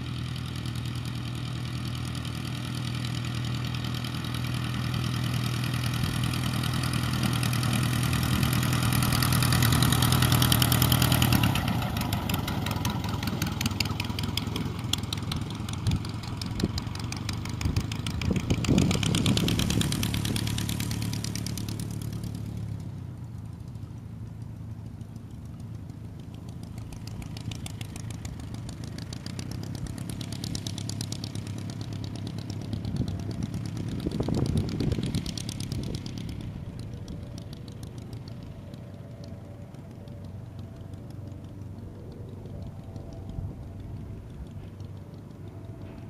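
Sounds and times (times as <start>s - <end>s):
plane engine and propeller: 0.0s - 46.0s.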